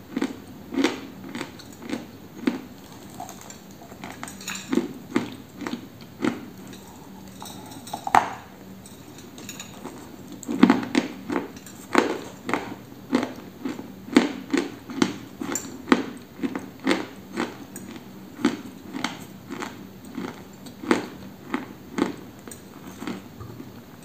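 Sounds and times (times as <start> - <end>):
dry crunchy chewing: 0.1 - 8.1, 9.1 - 24.0.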